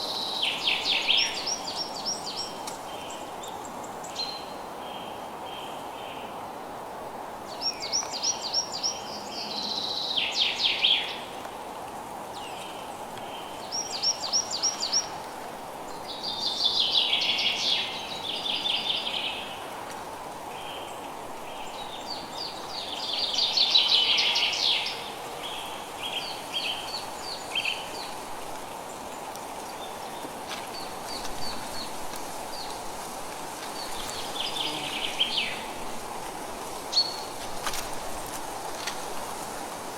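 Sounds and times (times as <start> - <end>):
songbird singing: 0.0 - 6.3, 7.5 - 11.3, 12.3 - 15.2, 15.9 - 19.7, 20.5 - 28.2, 28.8 - 36.2, 36.8 - 38.0.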